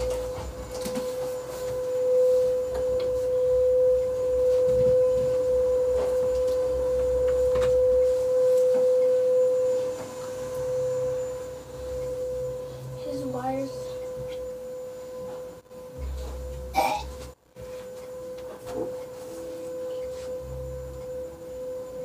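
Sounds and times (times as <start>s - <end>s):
steady mid-pitched tone: 0.0s - 22.0s.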